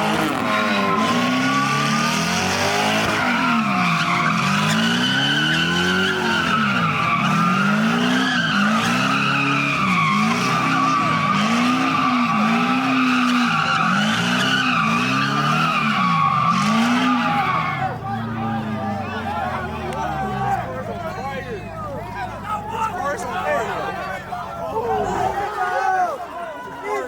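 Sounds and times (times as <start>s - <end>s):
car engine revving: 0.0s - 25.4s
tyres squealing: 0.0s - 27.0s.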